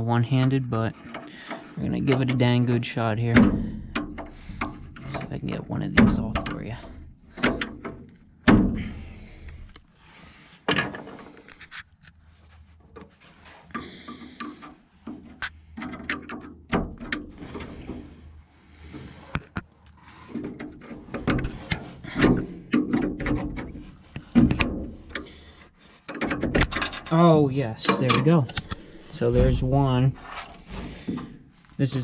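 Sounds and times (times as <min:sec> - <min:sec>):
metal clicks and scraping: 0:00.4 - 0:09.9, 0:10.6 - 0:12.2, 0:12.8 - 0:27.2, 0:27.8 - 0:32.0.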